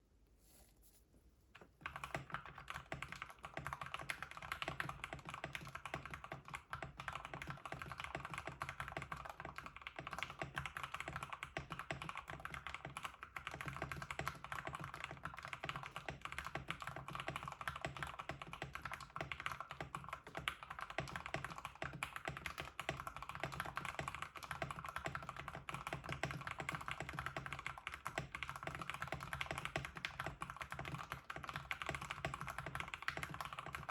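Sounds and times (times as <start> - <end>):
typing on mechanical keyboard: 1.8 - 33.9.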